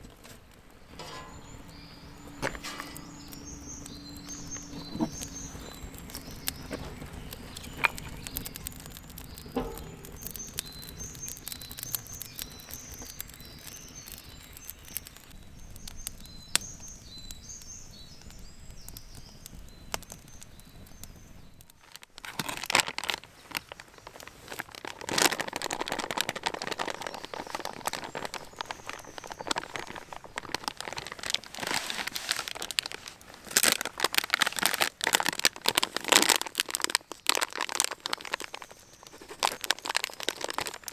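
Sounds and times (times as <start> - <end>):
dense crackling and crunching: 0.0 - 40.9
small birds chirping: 0.7 - 21.8, 23.2 - 40.9
sharp irregular pops: 0.9 - 40.9.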